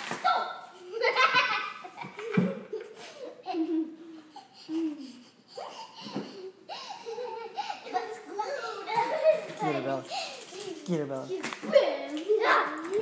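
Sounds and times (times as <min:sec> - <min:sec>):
children laughing: 0:00.1 - 0:13.0.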